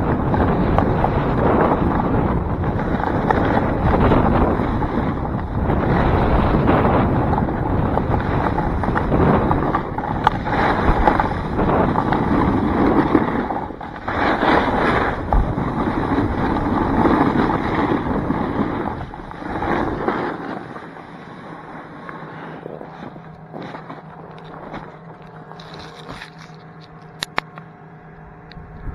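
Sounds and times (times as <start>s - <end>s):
snowboard scraping on snow: 0.0s - 26.8s
wind rushing over microphone: 0.0s - 28.9s.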